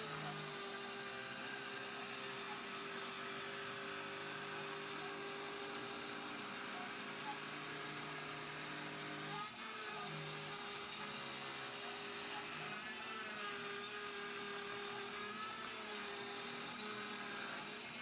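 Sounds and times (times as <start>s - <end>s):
router spindle whining: 0.0s - 18.0s.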